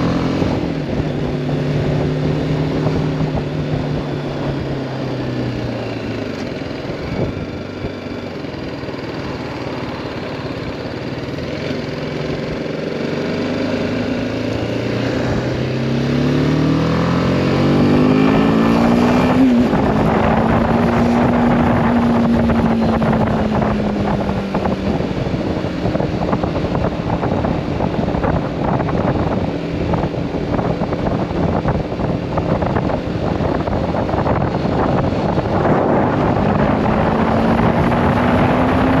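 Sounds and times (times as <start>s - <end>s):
wind noise on microphone: 0.0s - 8.6s, 13.5s - 39.0s
motorcycle engine accelerating: 0.0s - 39.0s.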